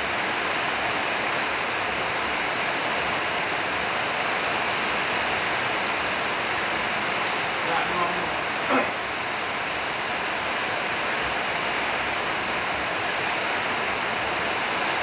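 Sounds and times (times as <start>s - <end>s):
steady background hiss: 0.2s - 15.0s.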